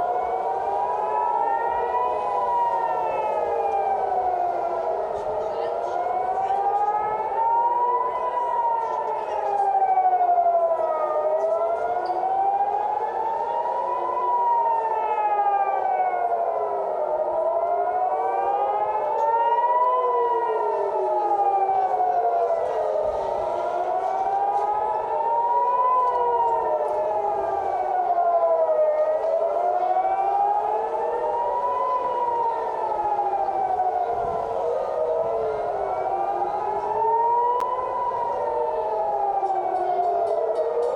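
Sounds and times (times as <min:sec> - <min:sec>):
air-raid sirens wailing: 0:00.0 - 0:40.9.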